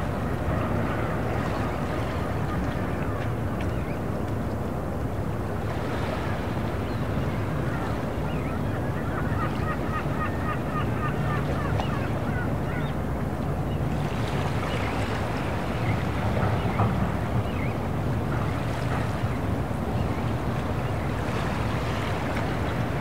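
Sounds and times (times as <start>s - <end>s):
boat engines rumbling: 0.0s - 23.0s.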